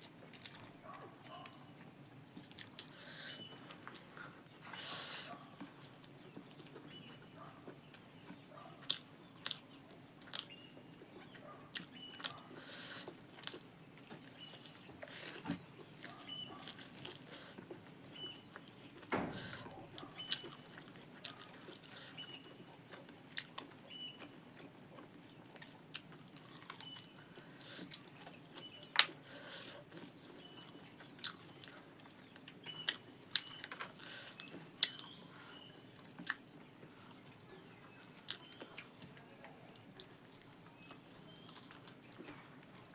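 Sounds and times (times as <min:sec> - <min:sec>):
person chewing food: 0:00.0 - 0:07.0, 0:07.6 - 0:42.9.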